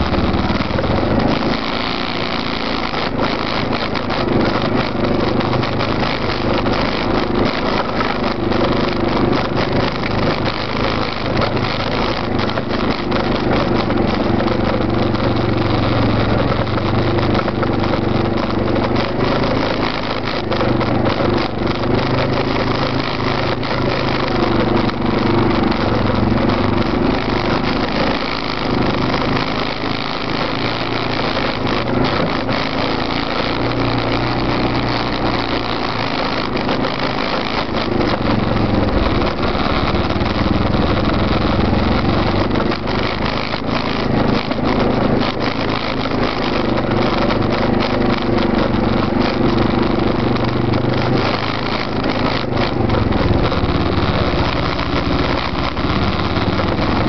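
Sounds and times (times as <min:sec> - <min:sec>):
atv engine revving: 0:00.0 - 0:57.0
second atv engine running: 0:00.0 - 0:57.0.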